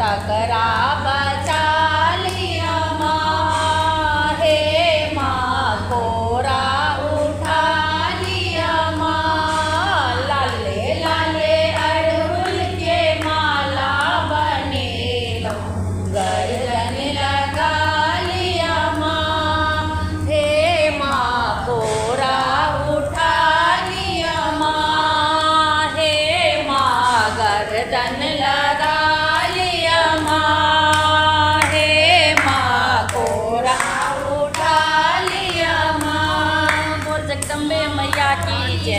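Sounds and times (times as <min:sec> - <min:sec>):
steady low hum: 0:00.0 - 0:38.9
women singing together: 0:00.0 - 0:38.9.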